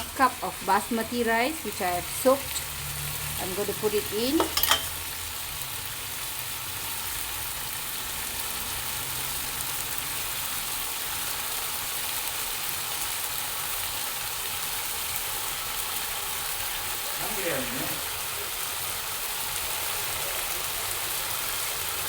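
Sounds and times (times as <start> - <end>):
chicken and rice sizzling in a pan: 0.0 - 22.0.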